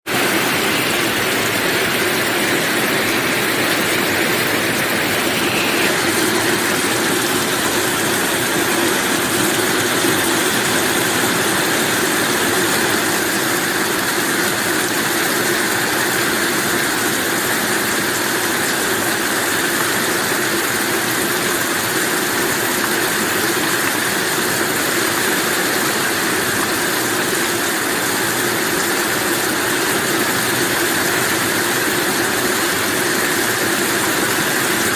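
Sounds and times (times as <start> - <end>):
heavy rain hiss: 0.1 - 34.9.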